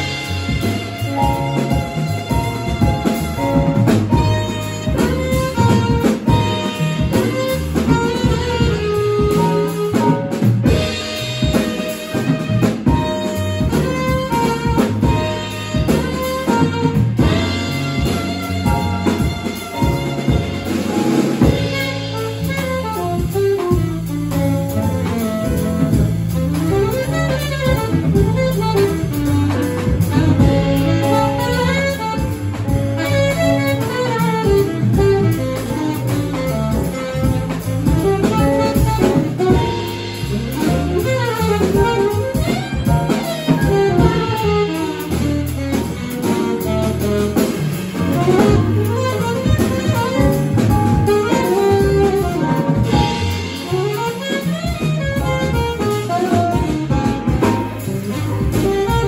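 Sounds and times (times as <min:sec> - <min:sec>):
drum kit: 0:00.0 - 0:59.0
piano: 0:00.0 - 0:59.0
saxophone melody: 0:00.0 - 0:59.0
upright bass: 0:00.0 - 0:59.0.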